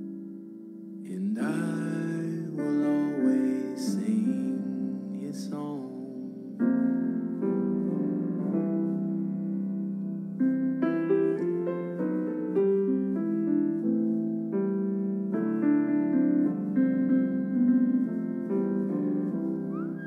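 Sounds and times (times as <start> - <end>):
solo piano music: 0.0 - 20.0.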